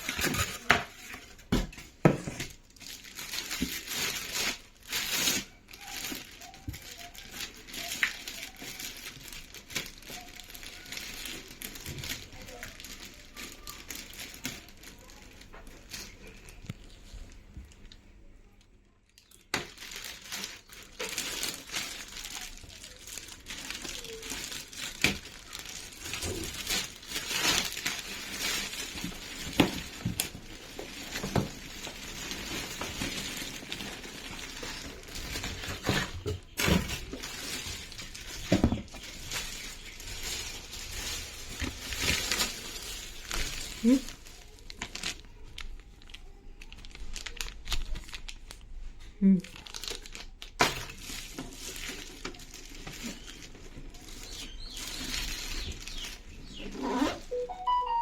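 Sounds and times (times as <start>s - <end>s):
plastic and cardboard packaging crinkling: 0.0s - 58.0s.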